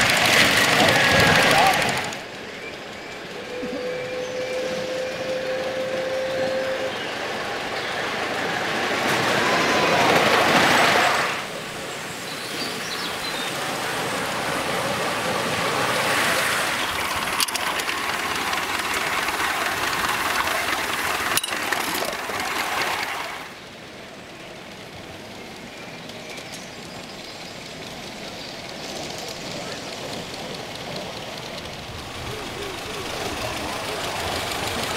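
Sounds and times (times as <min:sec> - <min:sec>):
model steam train running: 0:00.0 - 0:34.9.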